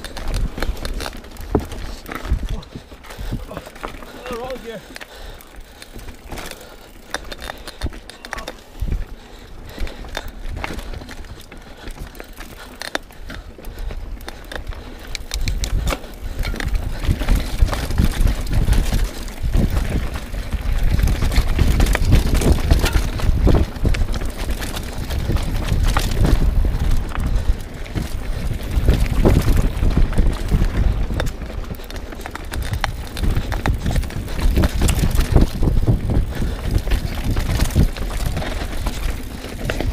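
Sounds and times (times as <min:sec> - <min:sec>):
bike rattling over bumps: 0:00.0 - 0:39.9
tyres crunching over rock: 0:00.0 - 0:39.9.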